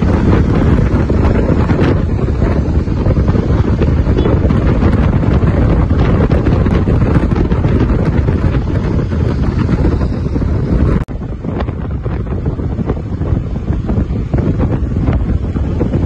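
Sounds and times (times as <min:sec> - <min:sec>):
motorcycle engine running: 0:00.0 - 0:16.0
road noise: 0:00.0 - 0:16.0
wind rushing over microphone: 0:00.0 - 0:16.0.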